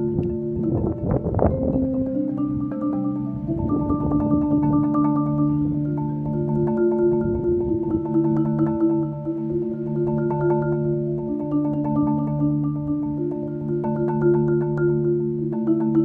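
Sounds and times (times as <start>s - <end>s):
marimba rolled chords: 0.0s - 16.0s.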